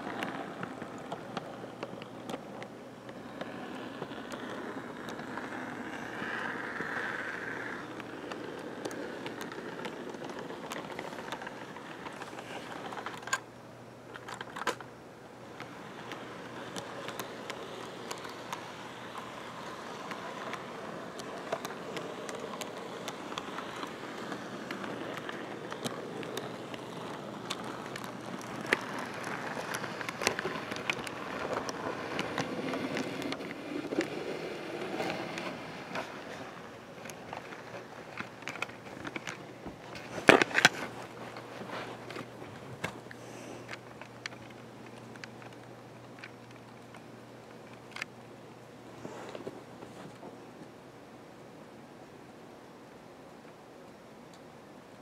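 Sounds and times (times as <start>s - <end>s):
model train wheels rolling: 0.0s - 50.8s
wheels clicking over rail joints: 0.0s - 50.8s.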